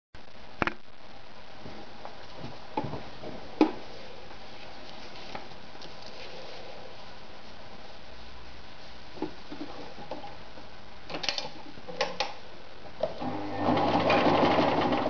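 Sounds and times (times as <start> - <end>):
steady hiss: 0.2 - 13.4.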